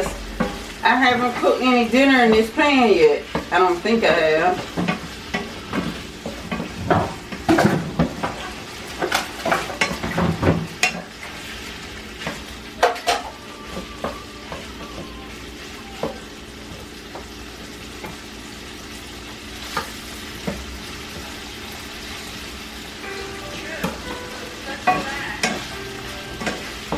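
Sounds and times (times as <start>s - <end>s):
chicken frying in oil: 0.0s - 26.9s.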